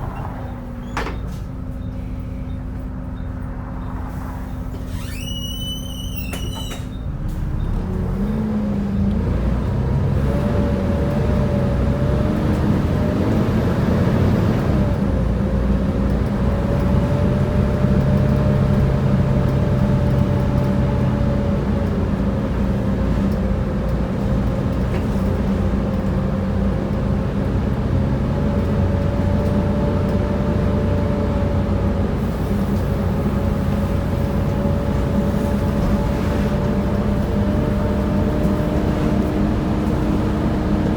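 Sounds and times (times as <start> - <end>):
bus diesel engine pulling away: 0.0 - 40.9.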